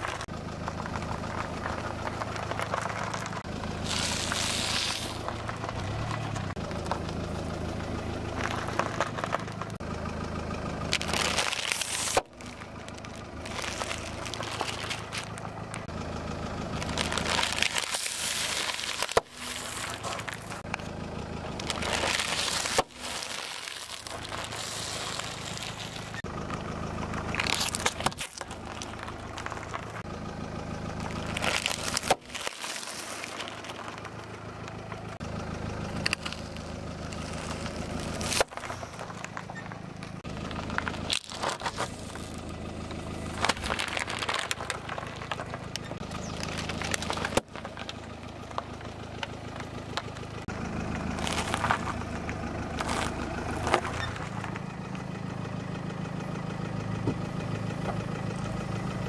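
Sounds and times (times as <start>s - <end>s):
chips and plastic packets crunching: 0.0s - 9.8s, 10.8s - 54.6s
car engine idling: 0.0s - 59.0s.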